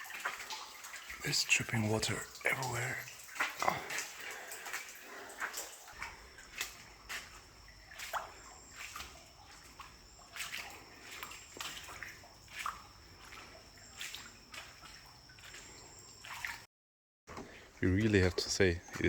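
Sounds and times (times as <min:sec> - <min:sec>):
water drops falling into pools: 0:00.0 - 0:16.7.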